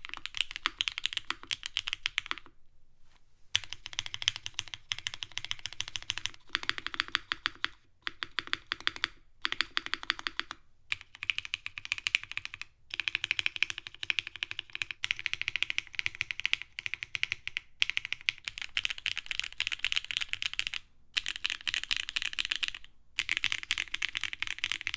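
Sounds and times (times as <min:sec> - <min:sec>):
fast typing on mechanical keyboard: 0:00.0 - 0:02.5, 0:03.6 - 0:24.9.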